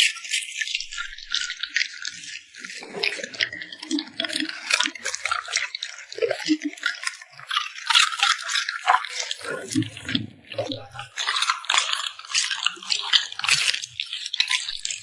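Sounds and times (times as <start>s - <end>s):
dog eating and chewing: 0.0s - 15.0s.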